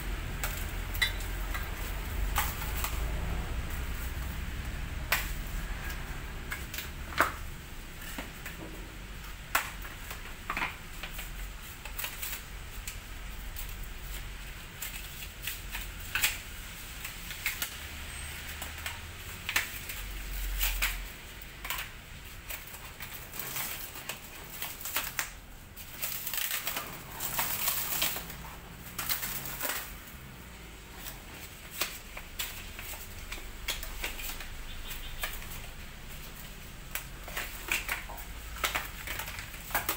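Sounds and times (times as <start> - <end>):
foam and plastic wrap rustling: 0.0 - 39.9.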